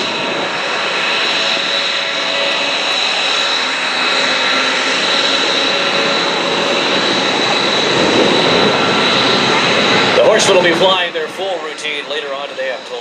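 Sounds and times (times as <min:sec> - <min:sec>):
propeller planes droning overhead: 0:00.0 - 0:13.0.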